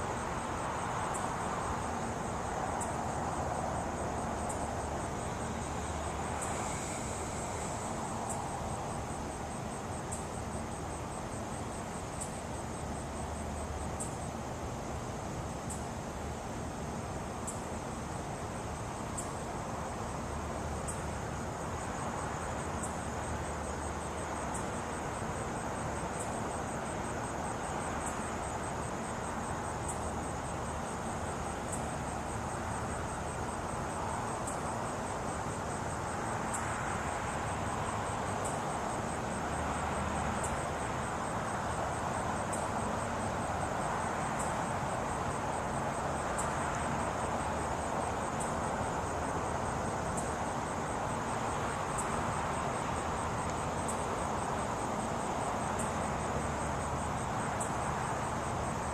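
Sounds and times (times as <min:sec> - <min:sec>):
insect sharp chirp: 0:00.0 - 0:58.9
insect high-pitched trill: 0:00.6 - 0:14.4, 0:15.0 - 0:58.9.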